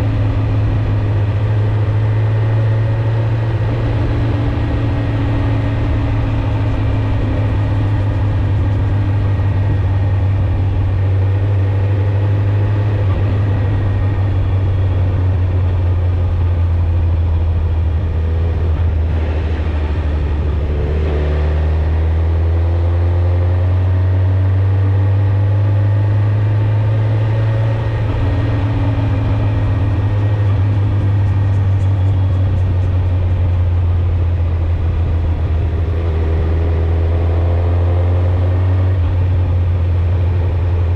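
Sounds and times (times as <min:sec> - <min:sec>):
motorcycle engine running: 0:00.0 - 0:23.2, 0:25.5 - 0:40.9.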